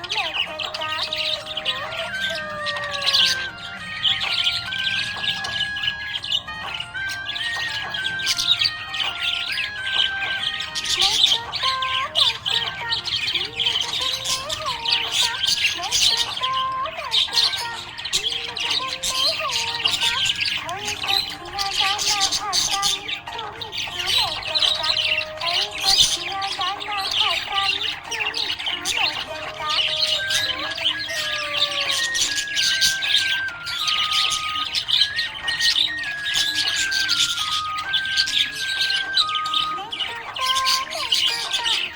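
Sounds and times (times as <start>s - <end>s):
background music with held notes: 0.0s - 41.9s
budgerigars chirping and chattering: 0.0s - 41.9s
simple repeating melody: 0.0s - 41.9s.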